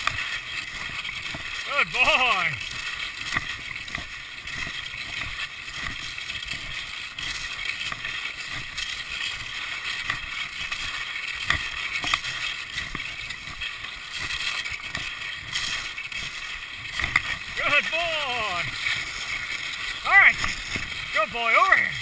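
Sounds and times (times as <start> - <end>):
ski pole crunching into snow: 0.0 - 22.0
skis scraping on snow: 0.0 - 22.0.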